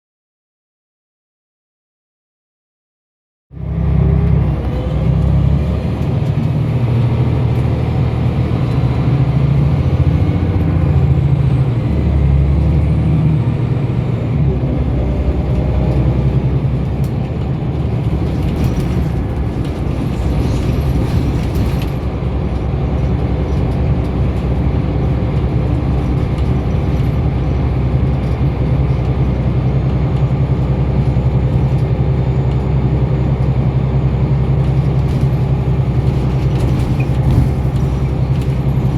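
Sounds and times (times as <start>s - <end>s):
bus diesel engine running: 3.5s - 38.9s.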